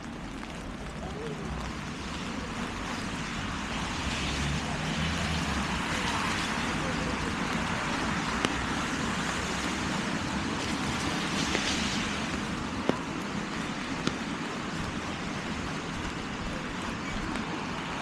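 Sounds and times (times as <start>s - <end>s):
rain and traffic hiss: 0.0s - 18.0s.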